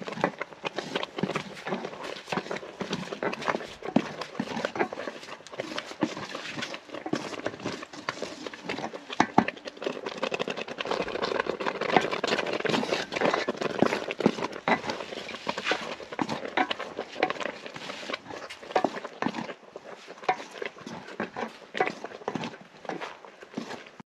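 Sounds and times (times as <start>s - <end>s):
water boiling: 0.0s - 24.0s
wooden spoon scraping metal pot: 0.0s - 24.0s.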